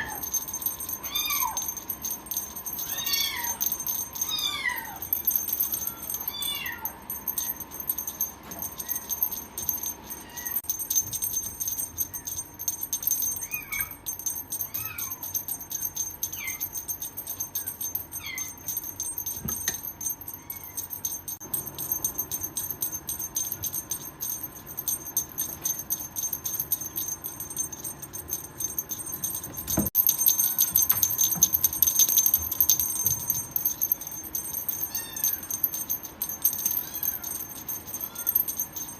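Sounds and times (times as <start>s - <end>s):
continuous jingling rattling: 0.0s - 38.9s.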